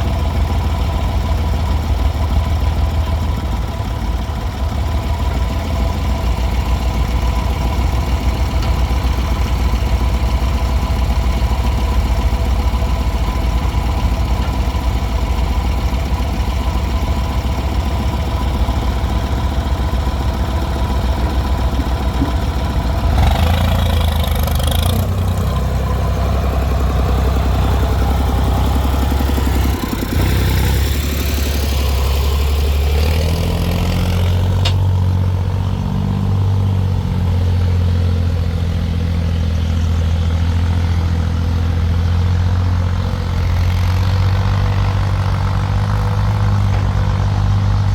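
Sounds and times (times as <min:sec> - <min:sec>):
heavy diesel machinery rumble: 0:00.0 - 0:47.9.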